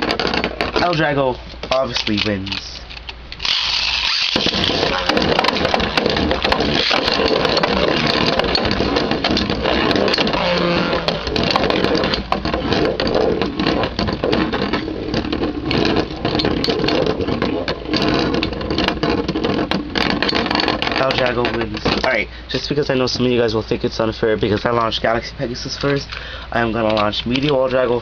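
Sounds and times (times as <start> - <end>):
metal tops clacking together: 0.0 - 22.6
spinning tops rattling and grinding: 0.0 - 27.9.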